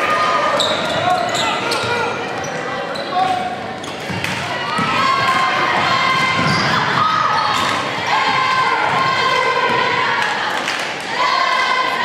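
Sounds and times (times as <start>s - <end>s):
crowd noise in large hall: 0.0s - 12.0s.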